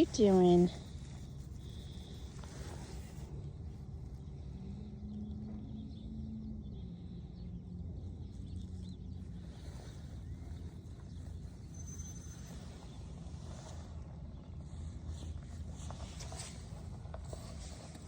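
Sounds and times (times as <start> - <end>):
faint droning hum: 0.0 - 18.0
low outdoor rumble: 0.0 - 18.0.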